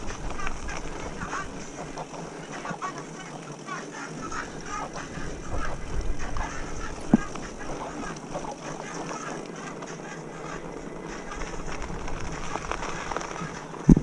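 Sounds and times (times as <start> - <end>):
mountain bike rattling on trail: 0.0 - 14.0.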